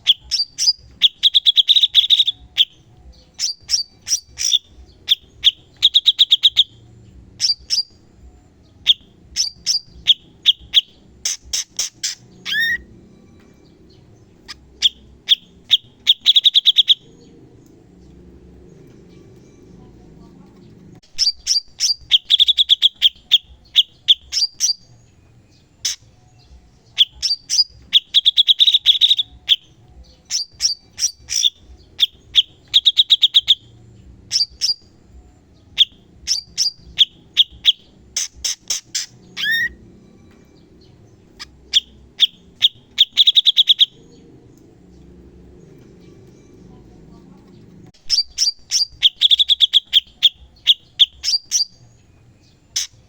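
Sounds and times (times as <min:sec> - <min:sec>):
bird chirps and trills: 0:00.0 - 0:53.0
faint low hum: 0:00.0 - 0:53.0.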